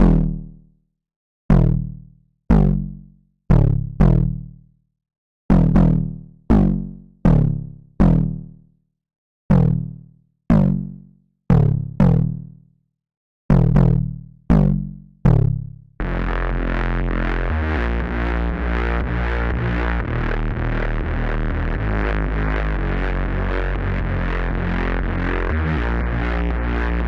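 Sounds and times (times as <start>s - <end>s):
plucked synth bass notes: 1.5s - 4.6s, 5.5s - 8.6s, 9.5s - 12.6s, 13.5s - 27.0s
sustained buzzy synth bass: 1.5s - 4.6s, 5.5s - 8.6s, 9.5s - 12.6s, 13.5s - 27.0s.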